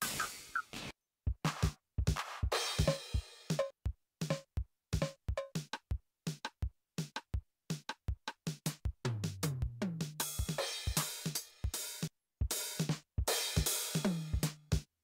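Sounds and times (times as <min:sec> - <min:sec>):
drum machine beat: 0:01.3 - 0:14.9.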